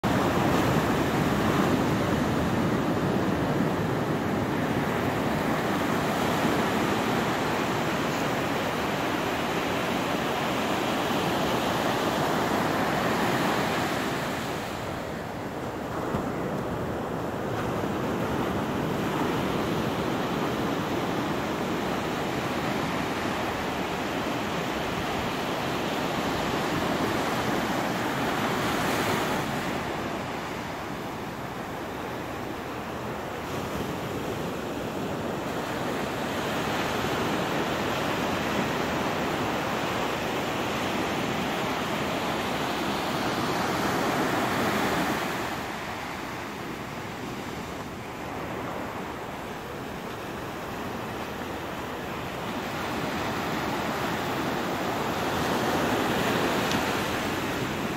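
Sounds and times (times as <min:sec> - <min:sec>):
ocean surf breaking: 0:00.0 - 0:57.9.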